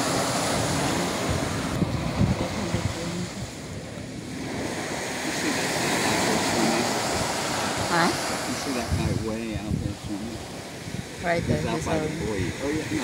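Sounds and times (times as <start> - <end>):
small surf breaking on sand: 0.0 - 13.0
wind rumbling on microphone: 0.0 - 13.0.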